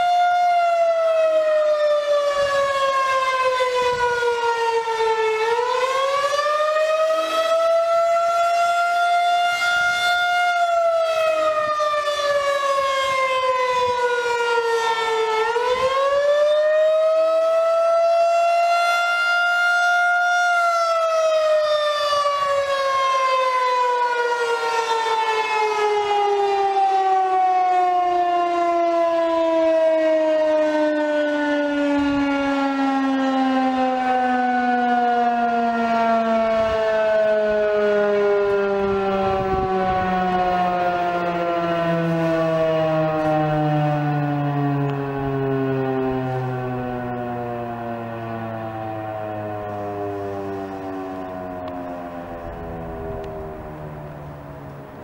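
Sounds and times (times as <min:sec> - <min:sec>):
warning siren wailing: 0:00.0 - 0:55.0.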